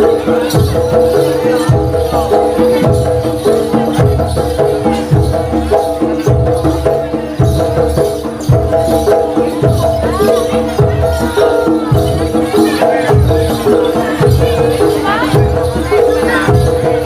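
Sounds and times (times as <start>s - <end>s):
deep drum beat: 0.0s - 17.0s.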